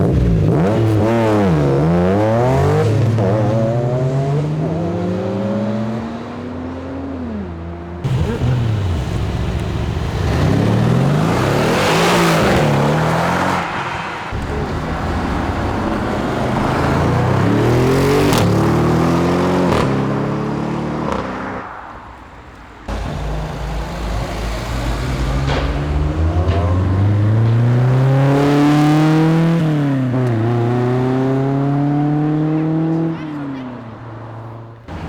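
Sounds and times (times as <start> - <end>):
car engines accelerating through gears: 0.0 - 35.0.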